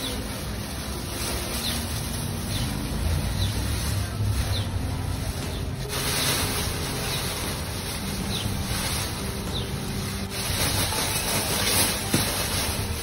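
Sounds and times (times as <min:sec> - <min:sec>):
plastic bag rustling in wind: 0:00.0 - 0:13.0.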